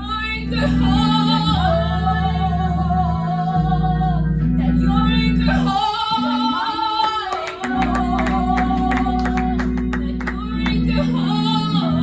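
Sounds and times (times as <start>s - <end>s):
person singing a melody: 0.0s - 12.0s.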